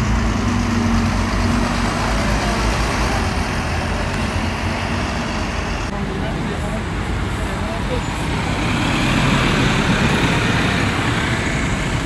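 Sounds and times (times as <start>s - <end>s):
bus driving past: 0.0s - 12.0s
street traffic noise: 0.0s - 12.0s.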